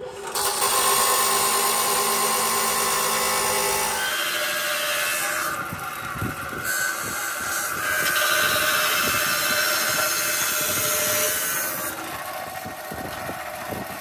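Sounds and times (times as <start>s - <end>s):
cut-off saw grinding steel: 0.0s - 14.0s.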